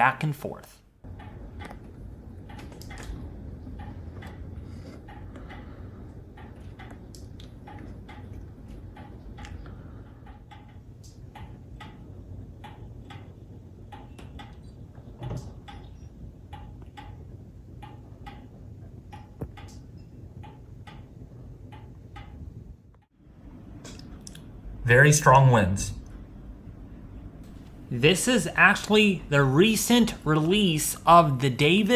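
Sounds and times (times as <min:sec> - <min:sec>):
pendulum clock ticking: 0:00.0 - 0:22.8, 0:27.5 - 0:31.9.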